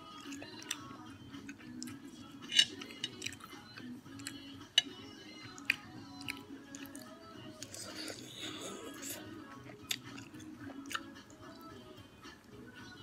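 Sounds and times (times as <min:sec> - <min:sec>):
chewing prawns: 0:00.0 - 0:11.7
quiet background music: 0:00.0 - 0:13.0.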